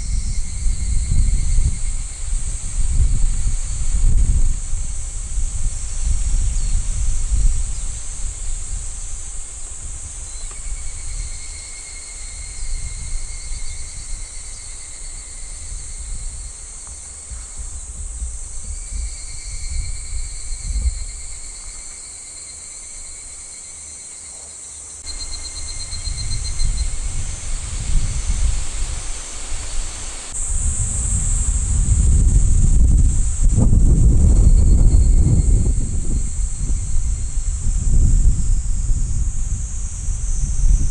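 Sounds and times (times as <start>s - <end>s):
wind buffeting microphone: 0.0s - 21.9s, 25.0s - 40.9s
high-pitched insect chorus: 0.0s - 40.9s
lower insect trill: 0.0s - 40.9s.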